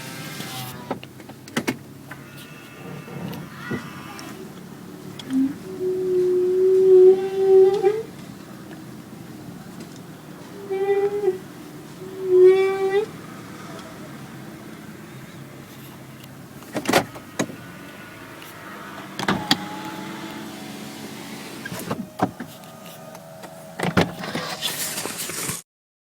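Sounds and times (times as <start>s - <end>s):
car running hum: 0.0s - 25.3s
brakes squealing: 0.0s - 25.6s.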